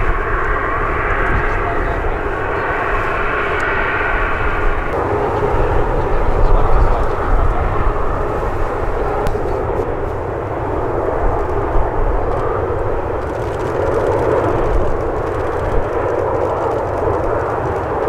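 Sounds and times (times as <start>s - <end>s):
jet engines at low power: 0.0s - 18.0s.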